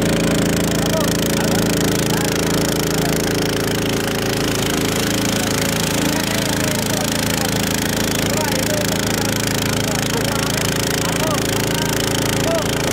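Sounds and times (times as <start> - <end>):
boat engine running steadily: 0.0 - 12.9.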